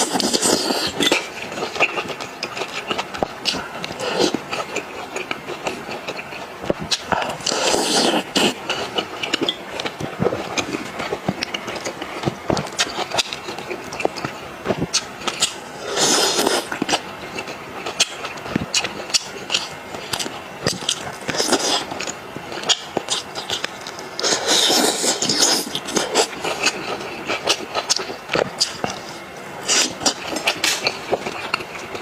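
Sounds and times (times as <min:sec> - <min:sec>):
wet chewing and sucking: 0:00.0 - 0:32.0.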